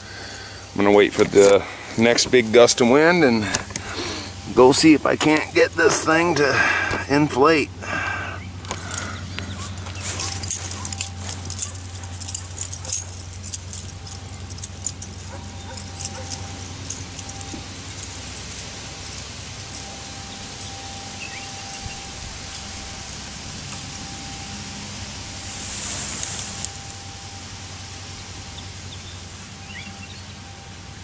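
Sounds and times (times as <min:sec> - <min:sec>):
low hum: 0:00.0 - 0:31.0
keys jingling while walking: 0:00.2 - 0:31.0.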